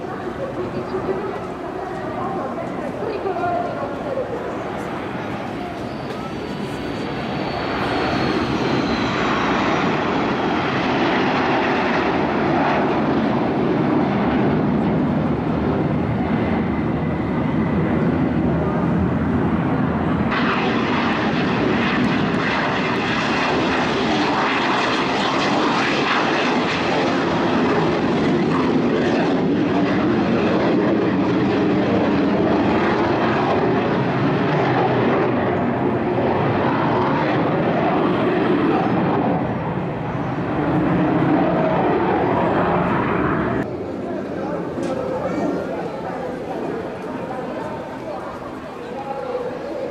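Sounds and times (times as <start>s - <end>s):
jets flying past: 0.0s - 49.9s.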